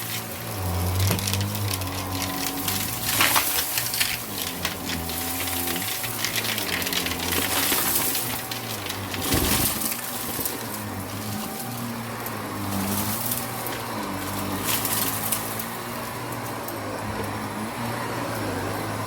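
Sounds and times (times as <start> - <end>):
grit rattling up hose: 0.0 - 19.0
vacuum cleaner running: 0.0 - 19.0.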